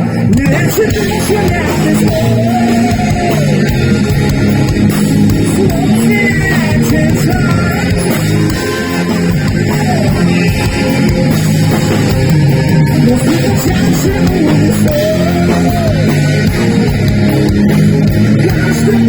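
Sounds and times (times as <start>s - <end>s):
heavy metal band playing: 0.0s - 19.0s
lead guitar line bending: 0.0s - 19.0s.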